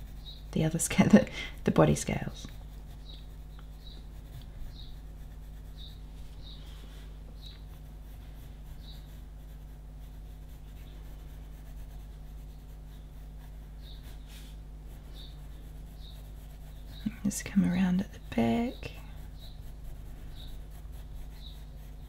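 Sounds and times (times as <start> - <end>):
pencil scratching on paper: 0.0 - 22.0
steady low hum: 0.0 - 22.0.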